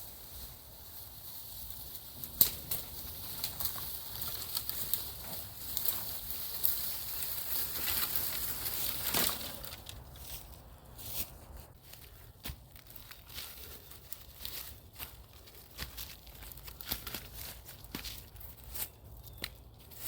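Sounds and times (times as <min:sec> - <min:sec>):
rustling and scraping handling noise: 0:00.0 - 0:20.0.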